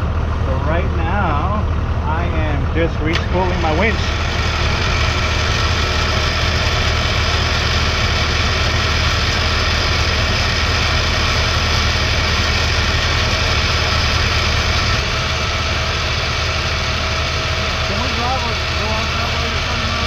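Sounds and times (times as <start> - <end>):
electric winch motor whine: 0.0 - 20.0
vehicle engine idling: 0.0 - 20.0.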